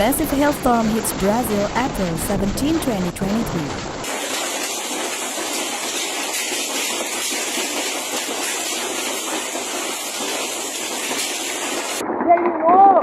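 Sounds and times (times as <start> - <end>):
hail and rain pelting down: 0.0 - 13.0.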